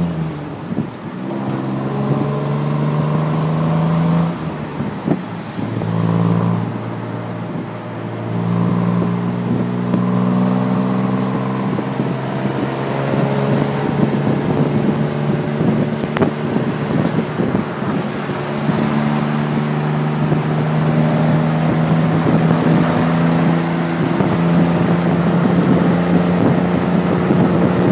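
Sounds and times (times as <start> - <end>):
road and wind noise: 0.0 - 27.9.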